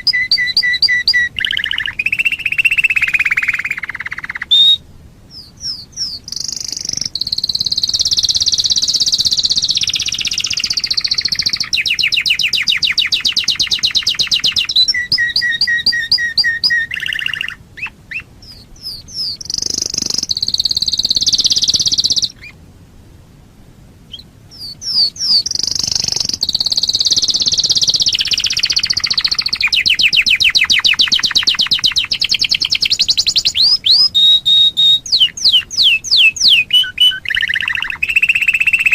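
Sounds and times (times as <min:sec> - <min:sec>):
canary singing trills: 0:00.0 - 0:22.6, 0:24.1 - 0:38.9.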